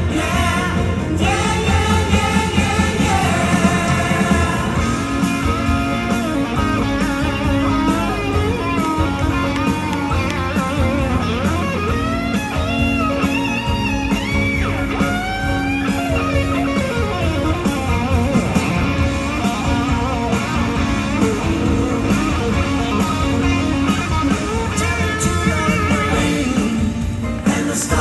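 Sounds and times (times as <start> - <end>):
bass: 0.0 - 28.0
drums: 0.0 - 28.0
electric guitar lead: 0.0 - 28.0.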